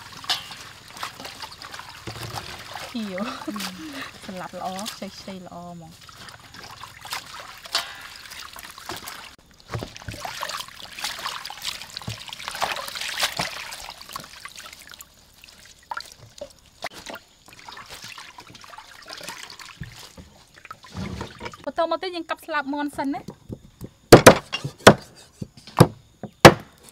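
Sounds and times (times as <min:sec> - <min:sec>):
water splashing in a basin: 0:00.0 - 0:21.7.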